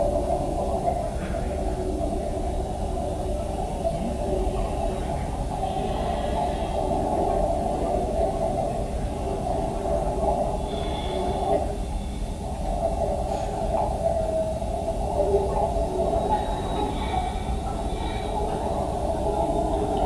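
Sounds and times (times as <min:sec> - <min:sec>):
faint wavering tones: 0:00.0 - 0:20.0
underwater noise over loudspeakers: 0:00.0 - 0:20.0.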